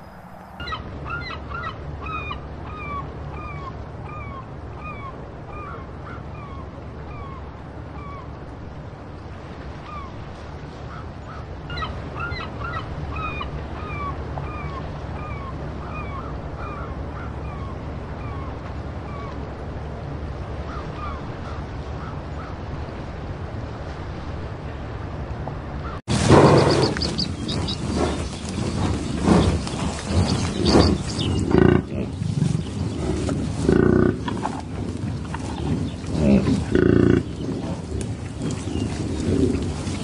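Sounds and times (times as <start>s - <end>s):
steady low rumble: 0.0s - 40.0s
waterbirds calling: 0.0s - 40.0s.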